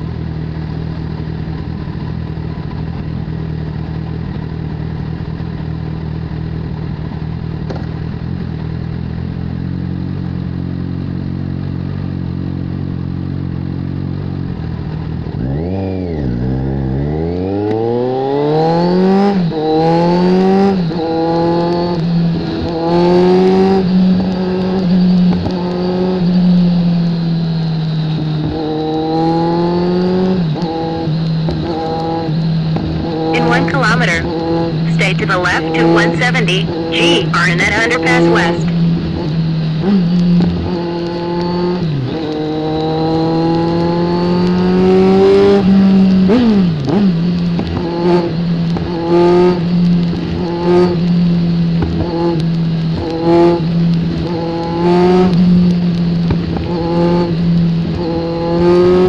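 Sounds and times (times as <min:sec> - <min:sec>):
motorcycle engine idling and accelerating: 0:00.0 - 0:33.4, 0:34.3 - 0:34.8, 0:38.7 - 0:59.0.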